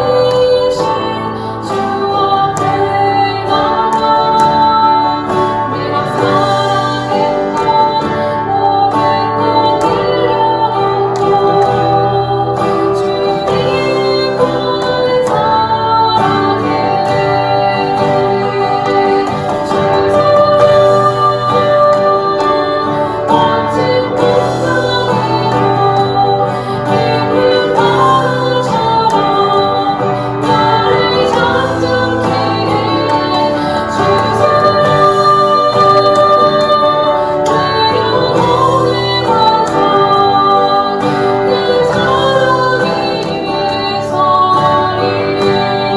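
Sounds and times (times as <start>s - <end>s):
woman singing a hymn: 0.0s - 45.9s.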